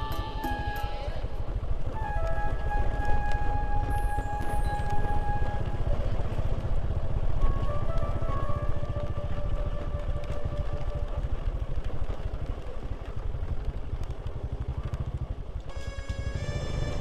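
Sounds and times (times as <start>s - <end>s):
faint music: 0.0s - 17.0s
motorcycle engine running: 0.0s - 17.0s.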